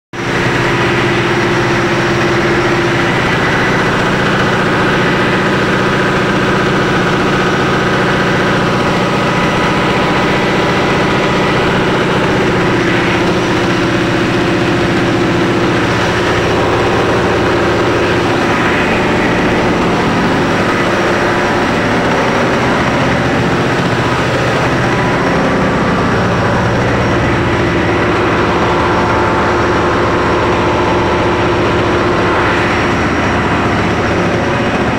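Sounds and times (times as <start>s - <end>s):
ship engine running steadily: 0.2s - 34.9s.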